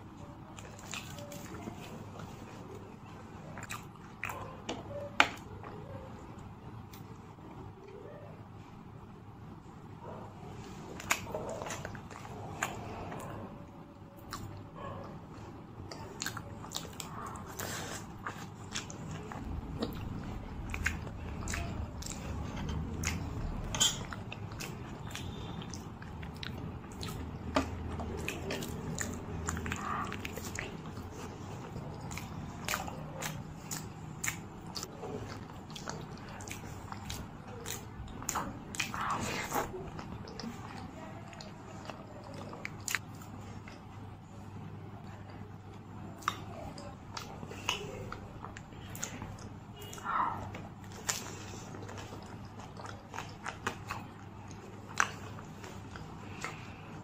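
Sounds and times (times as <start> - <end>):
close-miked chewing and biting: 0.0 - 8.2, 10.0 - 57.0.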